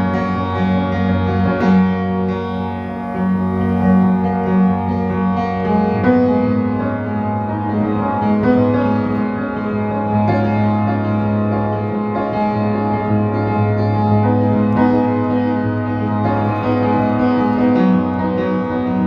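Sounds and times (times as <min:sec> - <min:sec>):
instrumental music of held chords: 0:00.0 - 0:19.0.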